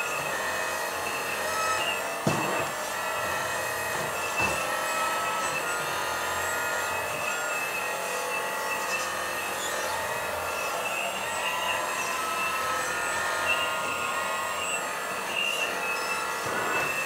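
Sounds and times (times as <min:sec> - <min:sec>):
hydraulic pumps whining: 0:00.0 - 0:17.0.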